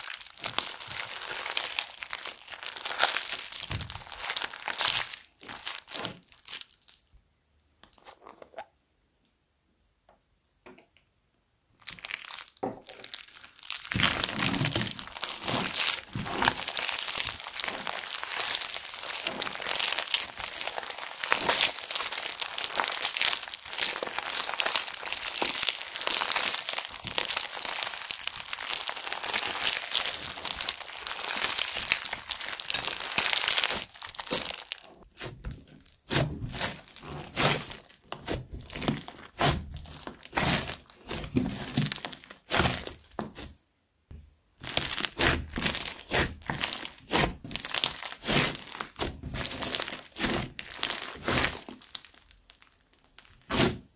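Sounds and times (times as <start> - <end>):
crunchy slime crackling: 0.0 - 8.7, 11.7 - 43.6, 44.6 - 53.9
slime squishing: 0.0 - 8.8, 11.8 - 43.6, 44.6 - 53.9.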